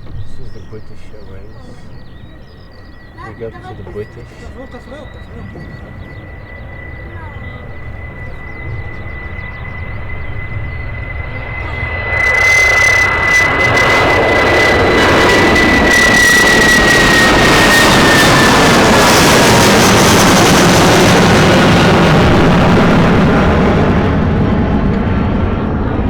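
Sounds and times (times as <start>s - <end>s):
jet engine roar: 0.0s - 26.0s
jet engine whine: 0.0s - 26.0s.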